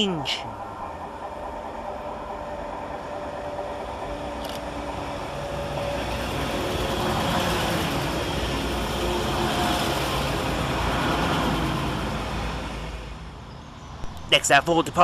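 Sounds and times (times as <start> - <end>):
train engine and wheel rumble: 0.0 - 15.0.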